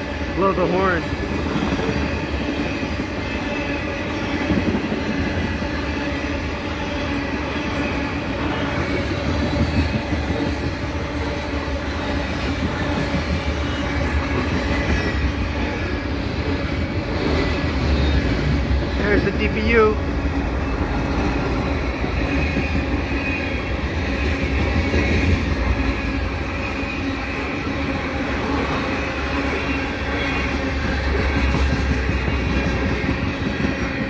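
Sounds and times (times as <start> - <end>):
freight train passing: 0.0 - 34.0.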